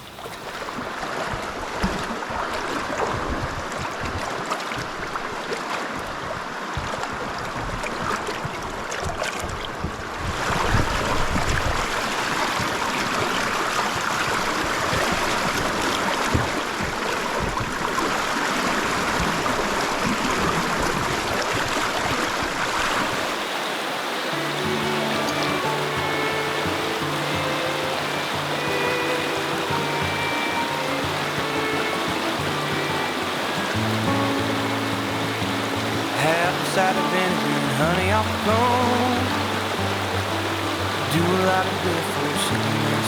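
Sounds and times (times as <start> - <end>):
shallow river rushing: 0.0 - 43.0.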